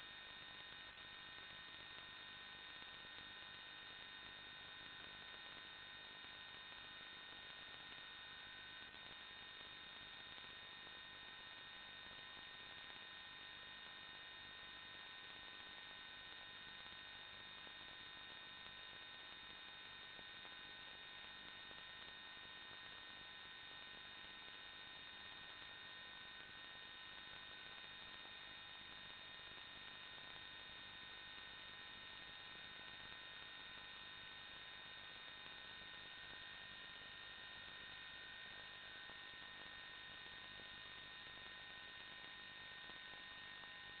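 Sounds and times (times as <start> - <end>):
electrical hum and whine: 0.0 - 44.0.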